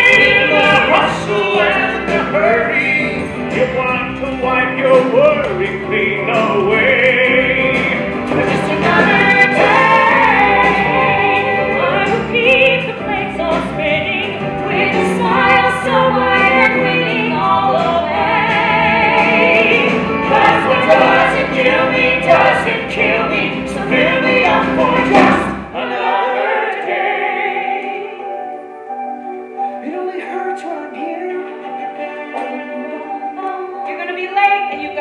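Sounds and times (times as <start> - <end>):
group of people singing: 0.0 - 3.8, 4.6 - 28.5, 29.9 - 33.5
band accompaniment: 0.0 - 33.6.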